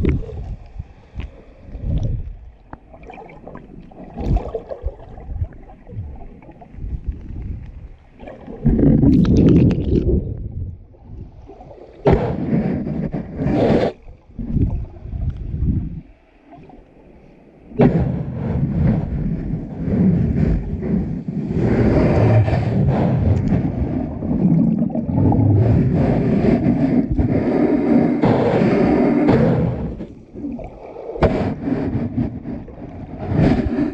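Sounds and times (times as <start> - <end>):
underwater water surges: 0.0 - 33.9.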